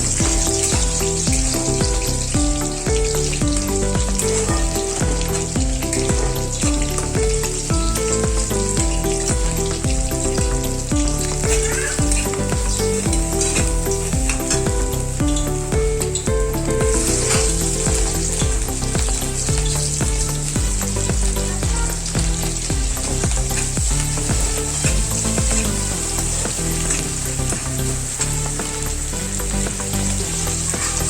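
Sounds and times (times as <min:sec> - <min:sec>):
fish frying in hot oil: 0:00.0 - 0:31.0
instrumental background music: 0:00.0 - 0:31.0.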